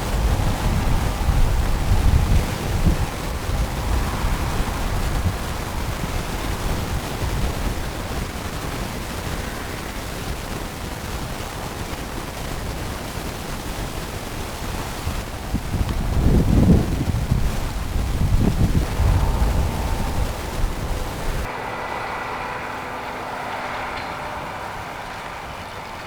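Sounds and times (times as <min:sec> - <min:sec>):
wind on microphone: 0:00.0 - 0:26.0.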